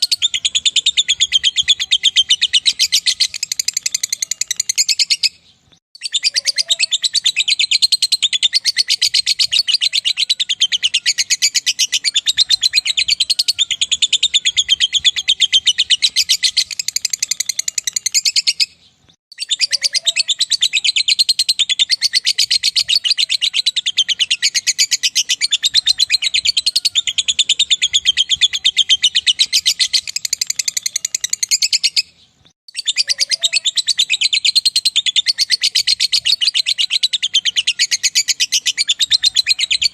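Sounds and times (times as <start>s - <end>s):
lovebird chattering trill: 0.0s - 5.4s, 6.0s - 18.7s, 19.4s - 39.9s.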